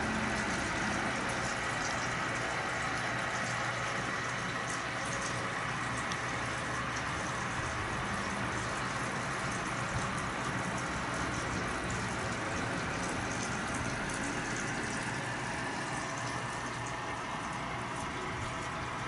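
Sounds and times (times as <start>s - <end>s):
rushing bubbling water: 0.0s - 19.0s.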